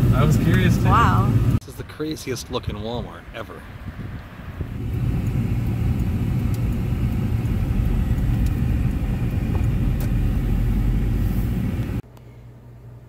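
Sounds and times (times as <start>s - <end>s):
car driving rumble: 0.0s - 1.6s, 2.5s - 12.0s.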